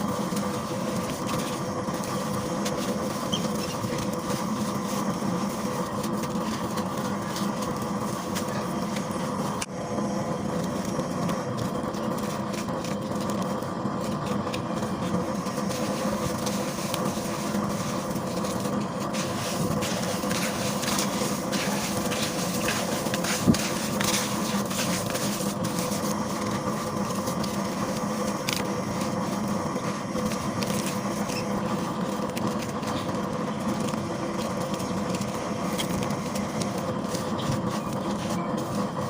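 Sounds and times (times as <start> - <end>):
steady hum: 0.0 - 39.0
paste crumbling crackles: 0.2 - 39.0.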